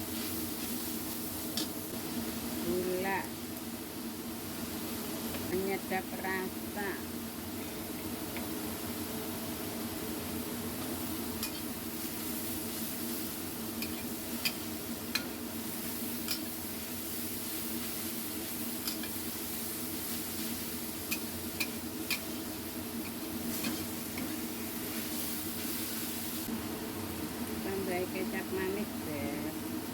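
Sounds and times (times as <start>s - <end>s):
food sizzling in a pan: 0.0s - 29.9s.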